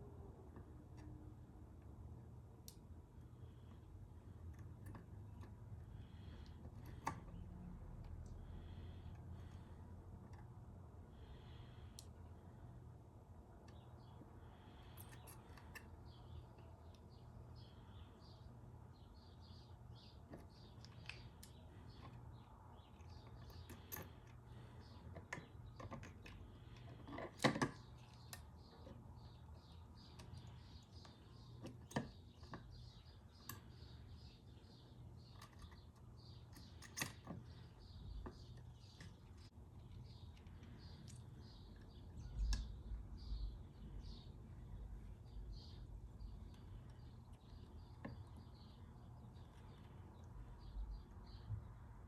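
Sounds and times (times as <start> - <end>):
low steady hum: 0.0 - 52.0
birds chirping: 2.6 - 52.0.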